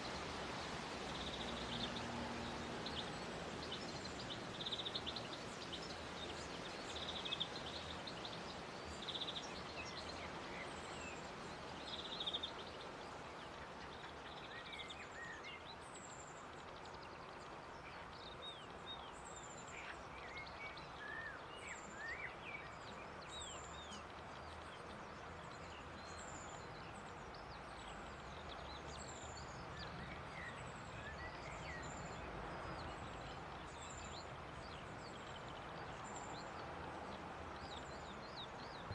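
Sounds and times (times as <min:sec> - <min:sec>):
outdoor background hiss: 0:00.0 - 0:38.9
small birds chirping: 0:00.0 - 0:38.9.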